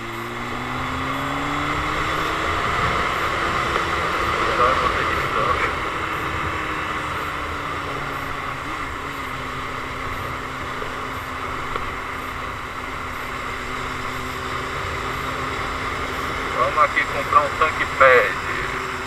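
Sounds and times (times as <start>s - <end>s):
motorcycle engine riding: 0.0s - 19.0s.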